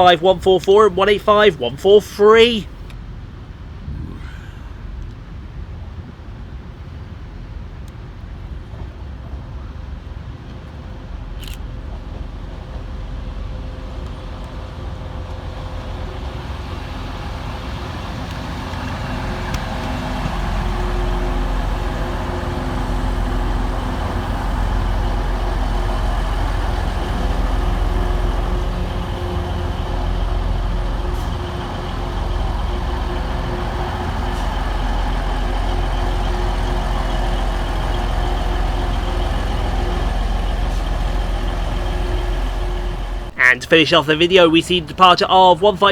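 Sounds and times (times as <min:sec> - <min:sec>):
diesel train engines rumbling: 0:00.0 - 0:45.9.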